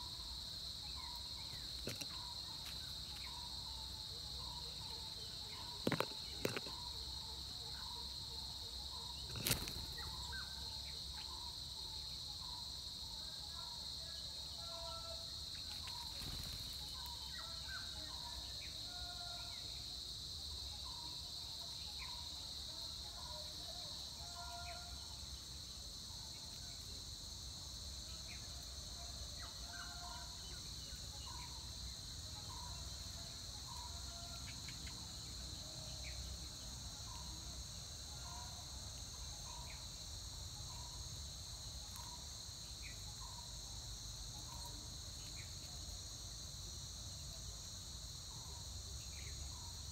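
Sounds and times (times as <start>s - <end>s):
insects buzzing: 0.0s - 49.9s.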